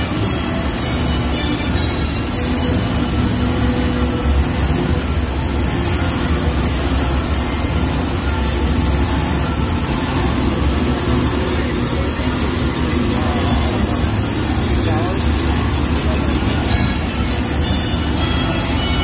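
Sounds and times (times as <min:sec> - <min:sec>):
tram rumble and road noise: 0:00.0 - 0:19.0.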